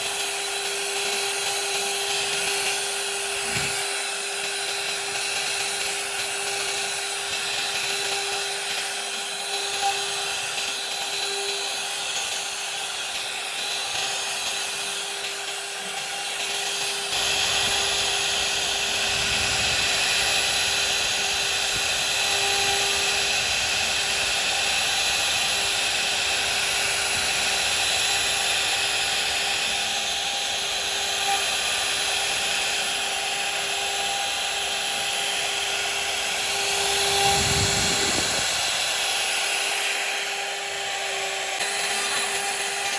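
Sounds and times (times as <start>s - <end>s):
router bit cutting wood: 0.0s - 42.9s
router spindle whining: 0.0s - 42.9s.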